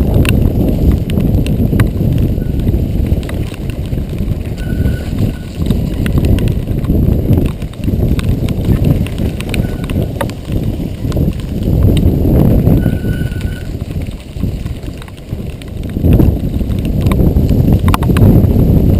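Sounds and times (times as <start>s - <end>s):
mountain bike rattling on trail: 0.0s - 18.9s.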